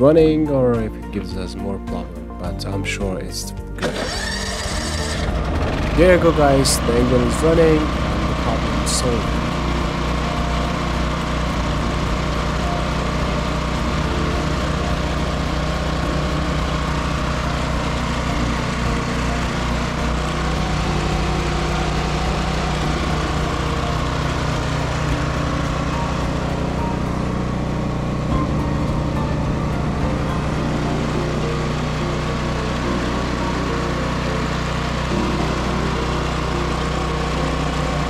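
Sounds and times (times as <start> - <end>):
generator engine running: 3.6 - 38.0.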